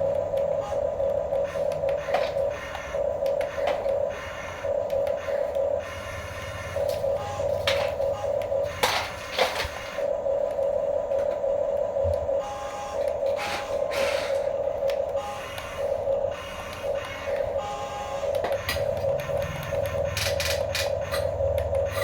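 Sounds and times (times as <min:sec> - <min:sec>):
toy electric motors whining: 0:00.0 - 0:10.2, 0:12.4 - 0:22.0.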